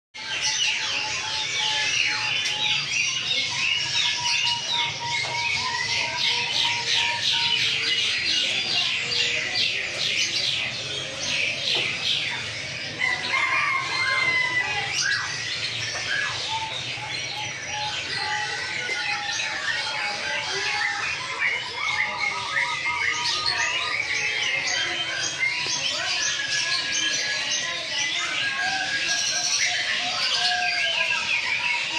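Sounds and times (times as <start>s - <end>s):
caged birds chirping and trilling: 0.2s - 31.9s.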